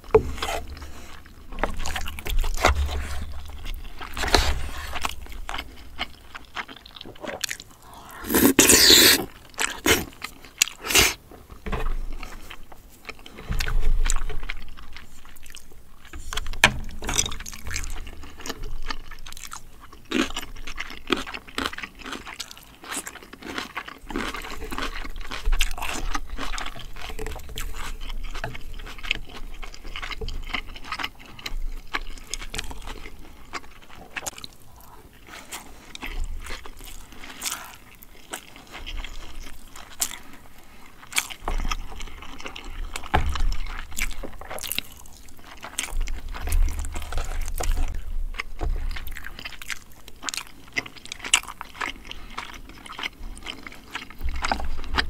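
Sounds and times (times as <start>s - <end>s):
chewing and eating: 0.0s - 55.0s.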